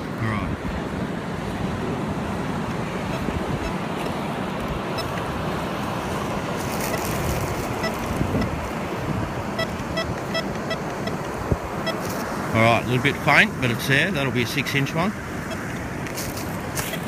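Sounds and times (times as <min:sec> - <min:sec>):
surf: 0:00.0 - 0:17.0.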